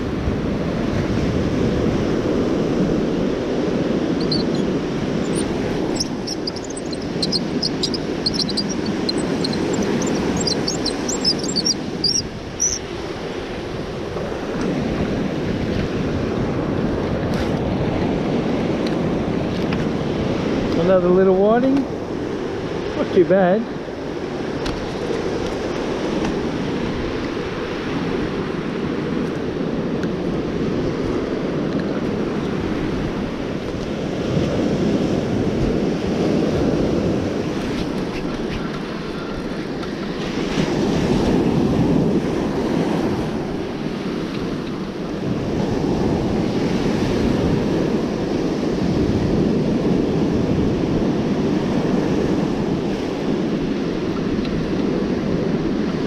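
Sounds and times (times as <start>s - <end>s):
ocean surf breaking on beach: 0.0s - 56.0s
wind rumbling on microphone: 0.0s - 56.0s.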